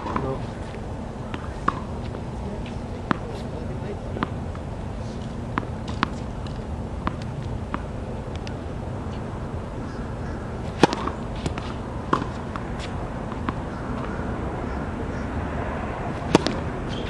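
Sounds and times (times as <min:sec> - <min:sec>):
rackets hitting tennis balls: 0:00.0 - 0:09.3, 0:09.9 - 0:14.2, 0:16.1 - 0:17.0.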